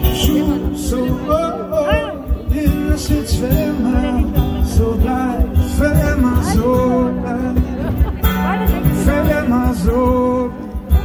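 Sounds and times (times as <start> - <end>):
live band music: 0.0 - 11.0.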